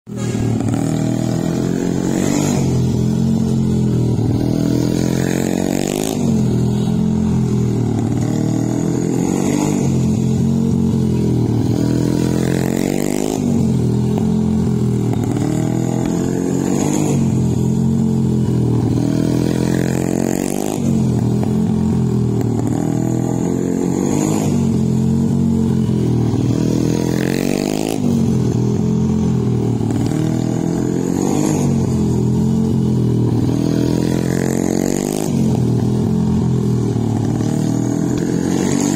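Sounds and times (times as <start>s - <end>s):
motorcycle passing by: 0.1s - 38.9s.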